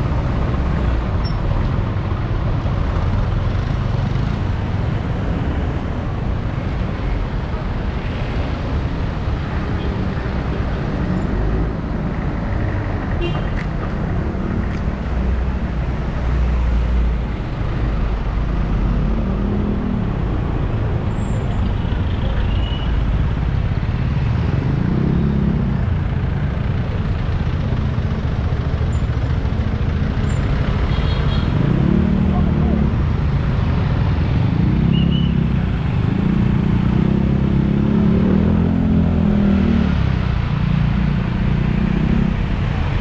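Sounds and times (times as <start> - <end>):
road traffic engine rumble: 0.0 - 43.0.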